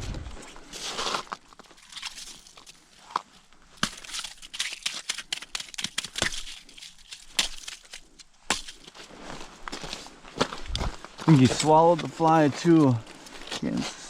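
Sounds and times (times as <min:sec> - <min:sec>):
crunching on ice and slush: 0:00.0 - 0:13.9.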